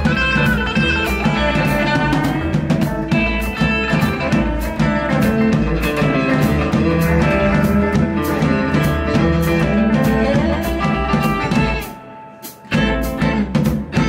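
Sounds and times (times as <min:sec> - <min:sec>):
rockabilly band playing: 0:00.0 - 0:14.0.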